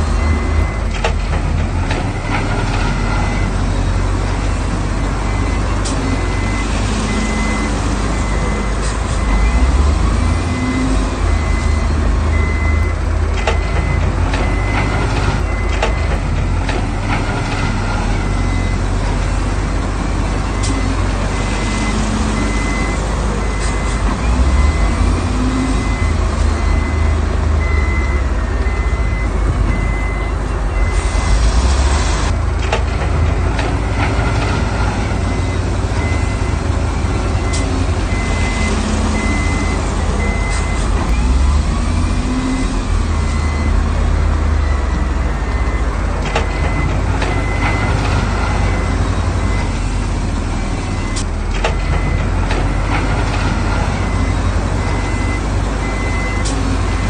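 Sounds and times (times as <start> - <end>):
diesel engines rumbling: 0.0 - 57.0
reversing alarm beeping: 0.1 - 1.0, 2.1 - 4.0, 5.3 - 16.3, 17.5 - 18.9, 20.5 - 31.8, 33.4 - 43.8, 44.5 - 50.0, 50.6 - 57.0.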